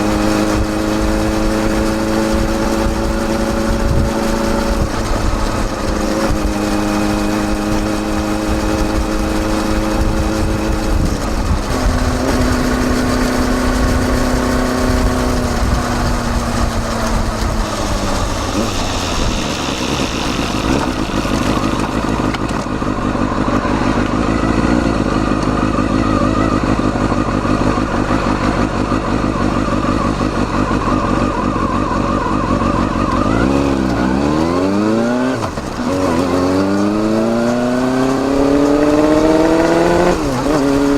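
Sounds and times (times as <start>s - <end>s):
motorcycle exhaust: 0.0s - 40.9s.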